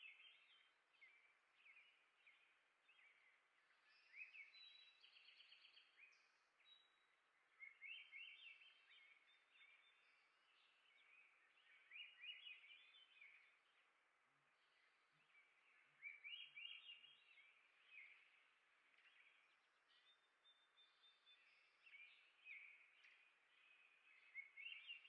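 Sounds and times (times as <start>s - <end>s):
small songbirds chirping: 0.0s - 25.0s.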